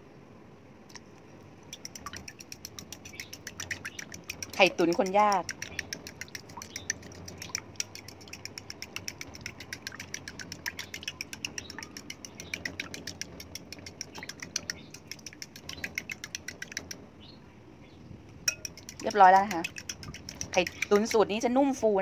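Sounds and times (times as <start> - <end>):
utensil beating eggs in a glass: 1.8 - 17.0, 18.5 - 21.4.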